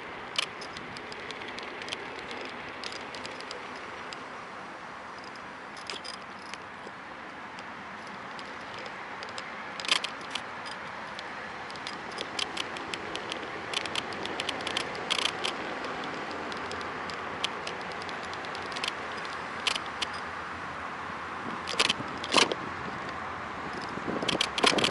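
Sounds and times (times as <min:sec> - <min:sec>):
scooter riding noise: 0:00.0 - 0:24.9
phone holder clicking and squeaking: 0:00.3 - 0:04.3, 0:05.2 - 0:20.3, 0:21.6 - 0:24.9.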